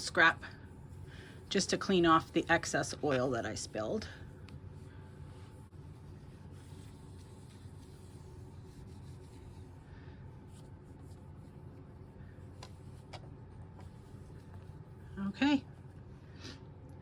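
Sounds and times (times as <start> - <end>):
low steady hum: 0.0 - 17.0
fabric rubbing on machine: 0.1 - 16.5.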